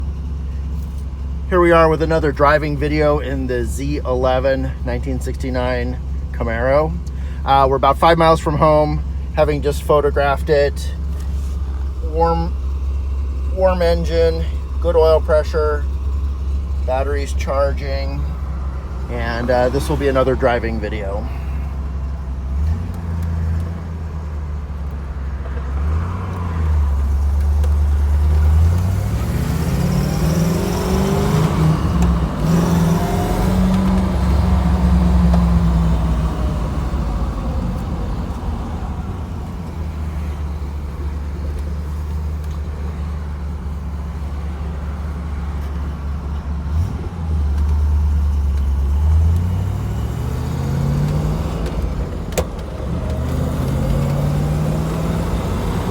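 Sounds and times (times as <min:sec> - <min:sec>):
car engine accelerating: 0:00.0 - 0:55.9.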